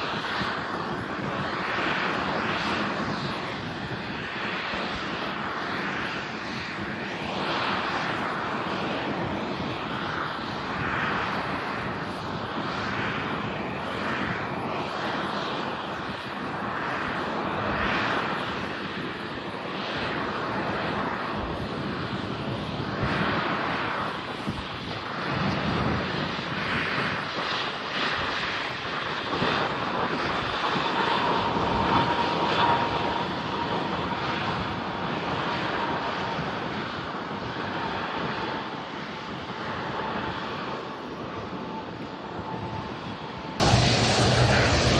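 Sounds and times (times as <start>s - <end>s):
airliner engines rumbling: 0.0s - 44.9s.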